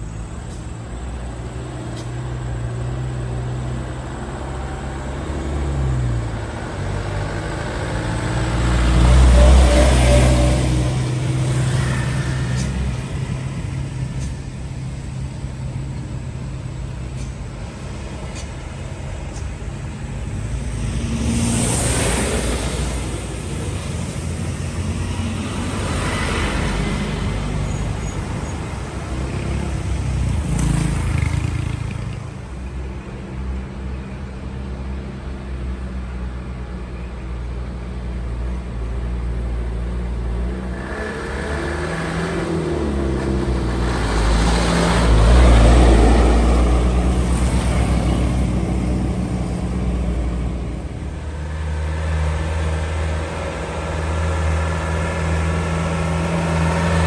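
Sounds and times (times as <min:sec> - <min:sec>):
diesel trucks passing: 0:00.0 - 0:57.0.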